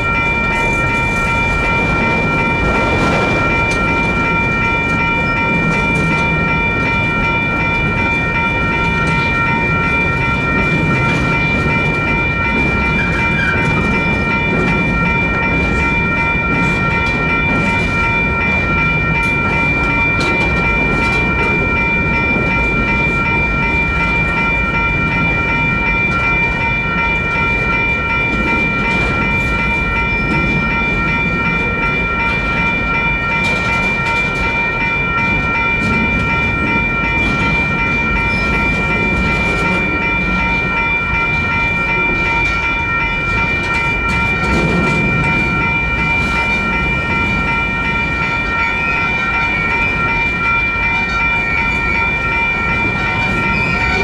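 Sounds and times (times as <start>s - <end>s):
electronic crossing bells ringing: 0.0s - 54.0s
freight train wheels rolling: 0.0s - 54.0s.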